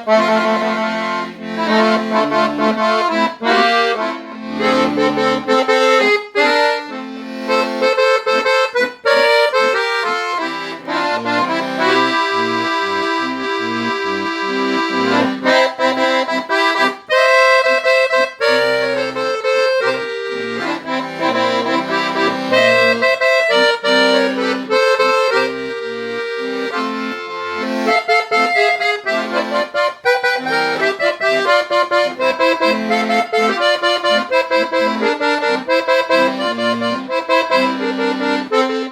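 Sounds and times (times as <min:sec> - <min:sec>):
accordion playing a tune: 0:00.0 - 0:38.9.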